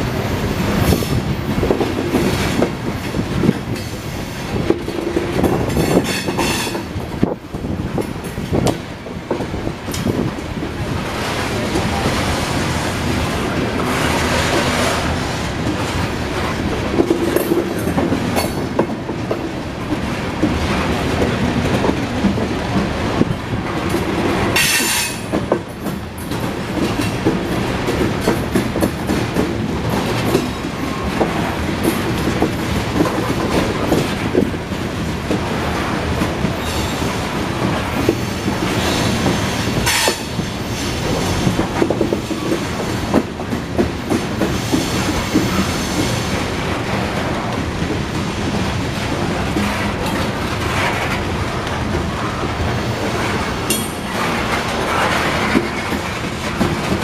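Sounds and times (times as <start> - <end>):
freight train wheels clicking over rail joints: 0.0 - 57.0.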